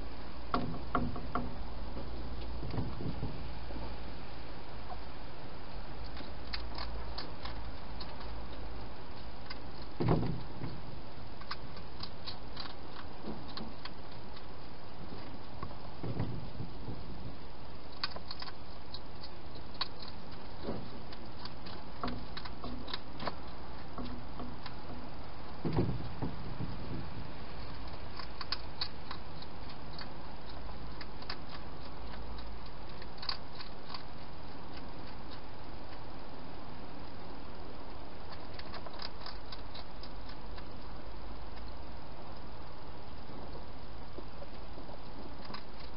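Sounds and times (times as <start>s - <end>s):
steady hiss: 0.0s - 45.9s
hedgehog chewing clicks: 6.0s - 45.9s.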